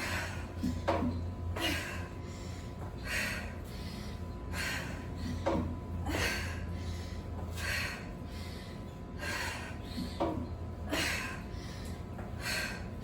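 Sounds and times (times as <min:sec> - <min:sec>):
steady low hum: 0:00.0 - 0:13.0
woman gasping breaths: 0:01.6 - 0:13.0.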